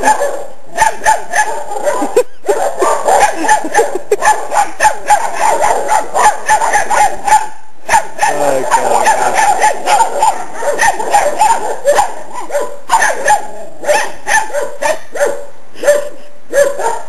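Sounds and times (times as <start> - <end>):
young dogs barking: 0.0 - 17.0.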